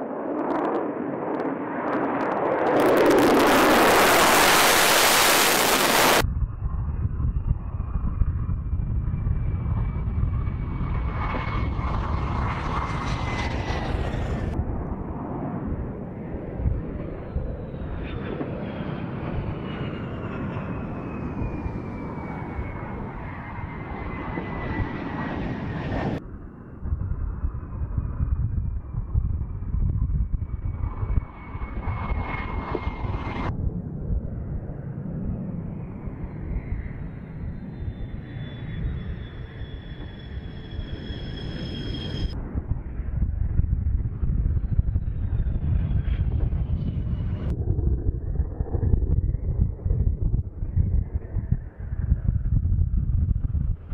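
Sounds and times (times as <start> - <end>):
dull jet rumble: 0.0 - 53.9
fighter jets roaring overhead: 0.0 - 53.9.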